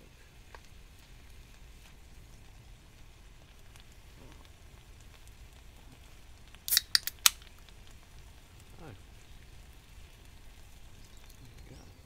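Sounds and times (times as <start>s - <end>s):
food sizzling in frying pan: 0.0s - 12.0s
small crackles: 0.0s - 12.0s.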